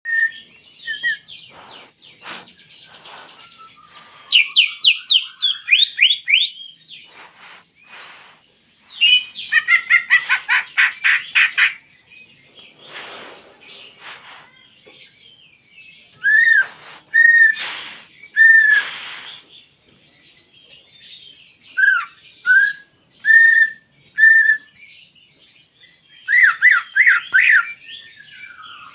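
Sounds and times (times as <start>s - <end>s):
bird singing trills and whistles: 0.0s - 28.9s.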